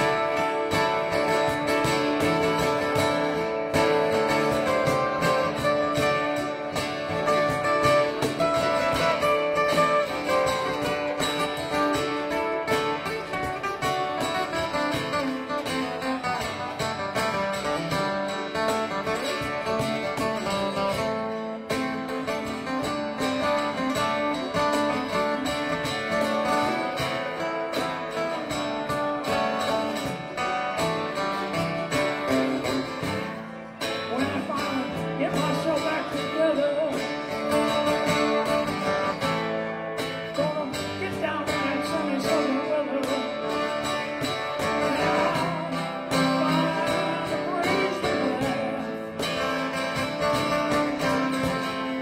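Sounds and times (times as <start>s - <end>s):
cajon beat: 0.0s - 52.0s
electric guitar: 0.0s - 52.0s
strummed acoustic guitars: 0.0s - 52.0s.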